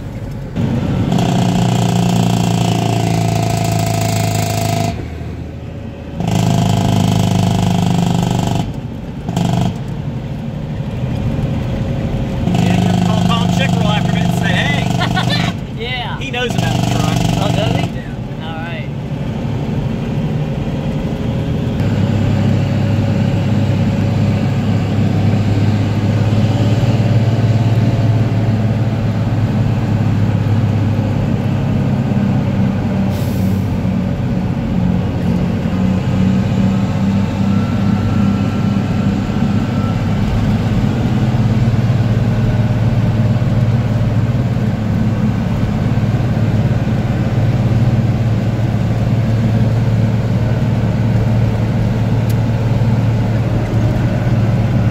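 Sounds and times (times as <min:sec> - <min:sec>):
diesel truck engine drone: 0:00.0 - 0:54.9.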